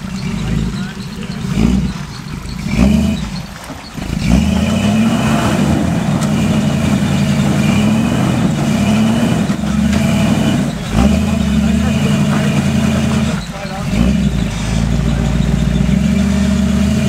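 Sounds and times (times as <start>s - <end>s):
engine working under load: 0.0s - 17.0s.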